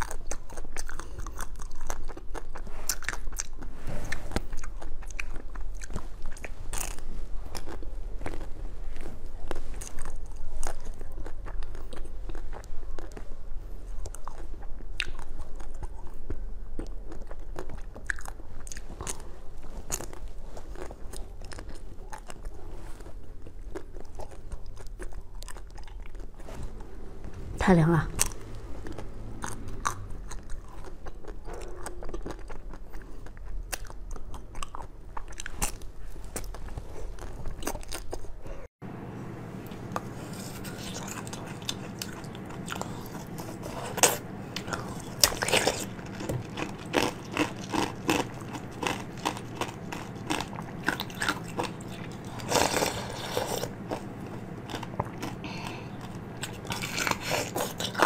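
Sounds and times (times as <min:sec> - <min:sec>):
biting and crunchy chewing: 0:00.0 - 0:27.3, 0:28.2 - 0:38.6, 0:39.7 - 0:58.0.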